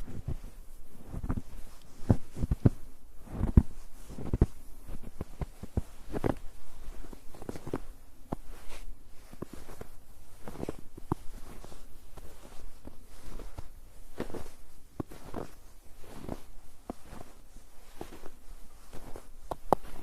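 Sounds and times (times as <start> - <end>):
footsteps crunching in snow: 0.0 - 20.0.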